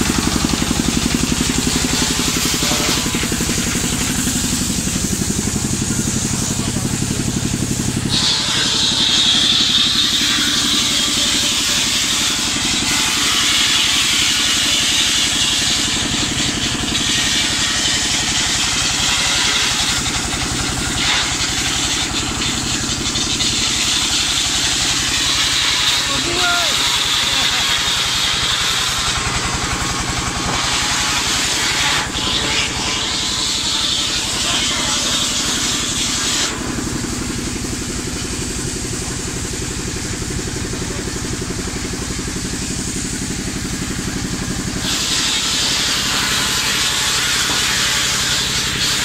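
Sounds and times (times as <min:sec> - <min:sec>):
engine running: 0:00.0 - 0:49.0
saw blade whining in wood: 0:00.0 - 0:49.0.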